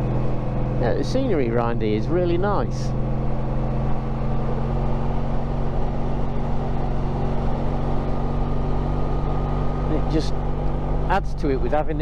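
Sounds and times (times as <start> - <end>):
motorcycle engine cruising: 0.0 - 12.0
road rumble: 0.0 - 12.0
wind: 0.0 - 12.0.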